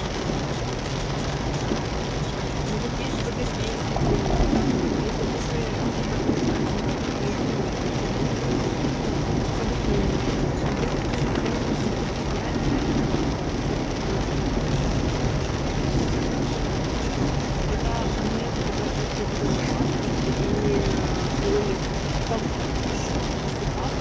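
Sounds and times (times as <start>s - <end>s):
heavy rain on car roof: 0.0s - 24.0s.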